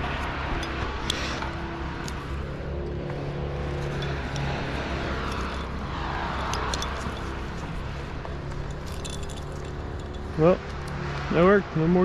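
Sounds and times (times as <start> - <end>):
large engine running: 0.0 - 12.0.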